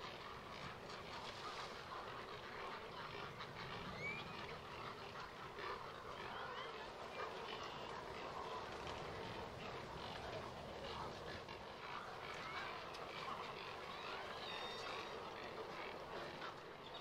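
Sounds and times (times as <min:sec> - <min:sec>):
colony of birds croaking: 0:00.0 - 0:17.0.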